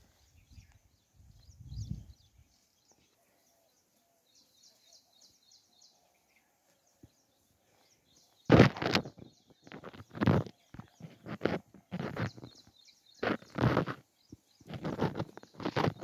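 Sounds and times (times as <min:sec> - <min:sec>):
faint high bird chirps: 0:00.0 - 0:16.0.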